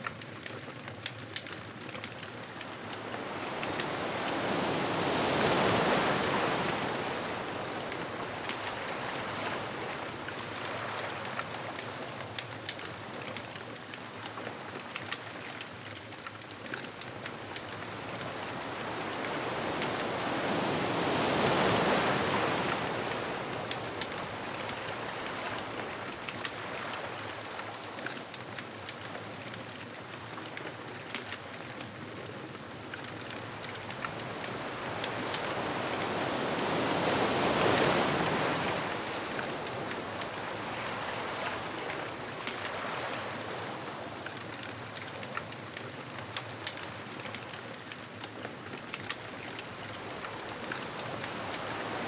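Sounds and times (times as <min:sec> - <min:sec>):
ocean waves breaking on beach: 0:01.4 - 0:52.0.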